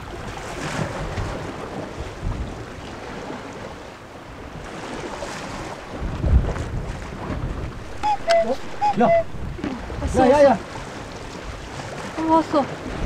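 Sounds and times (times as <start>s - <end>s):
sea waves washing against rocks: 0.0s - 13.0s
wind buffeting microphone: 0.0s - 13.0s.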